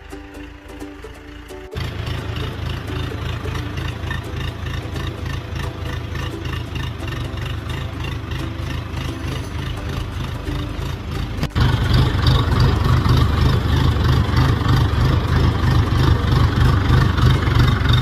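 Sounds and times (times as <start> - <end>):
engine running with low pulse: 0.0 - 18.0.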